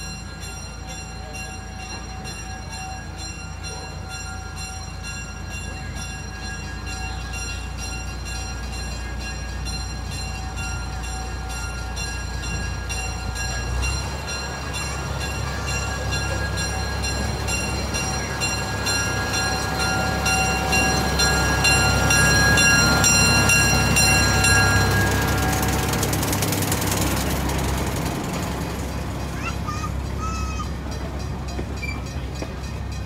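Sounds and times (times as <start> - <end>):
amusement-park train rumbling: 0.0 - 33.0.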